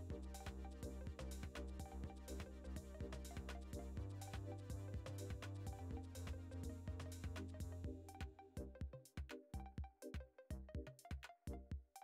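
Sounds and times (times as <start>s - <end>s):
quiet background music with beat: 0.0s - 12.0s.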